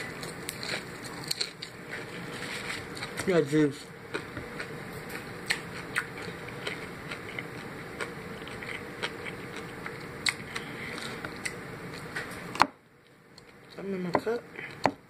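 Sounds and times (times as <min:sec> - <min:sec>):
chewing crispy fried chicken: 0:00.0 - 0:12.1
crackles of crispy crust: 0:00.0 - 0:12.1.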